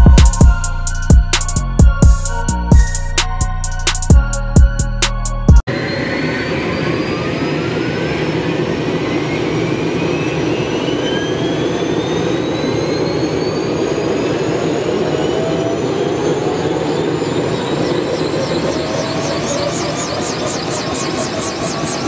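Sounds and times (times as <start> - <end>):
helicopter turbine spooling up: 0.0 - 22.0.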